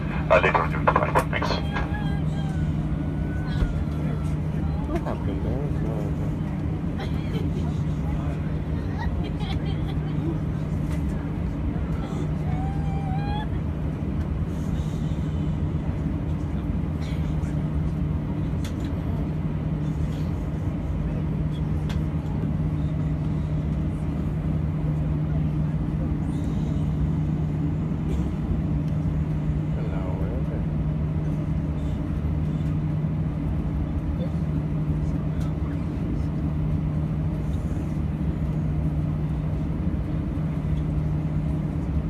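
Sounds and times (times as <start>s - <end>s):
airliner cabin engine drone: 0.0s - 42.0s.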